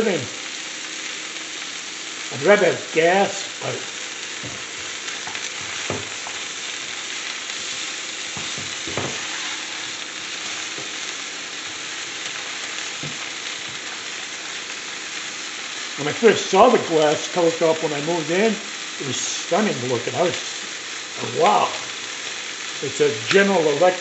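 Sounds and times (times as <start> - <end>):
chicken sizzling in a frying pan: 0.0 - 24.0.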